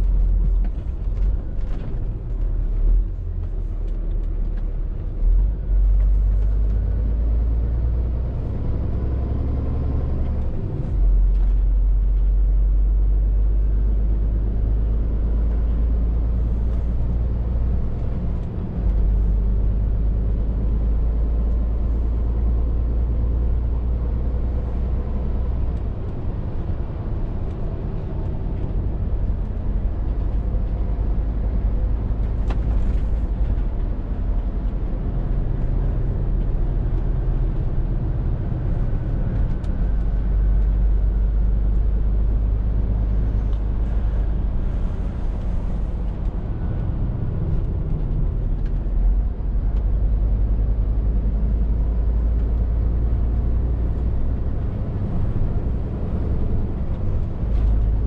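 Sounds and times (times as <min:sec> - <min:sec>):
road noise: 0:00.0 - 0:58.0
lorry engine droning: 0:04.7 - 0:58.0.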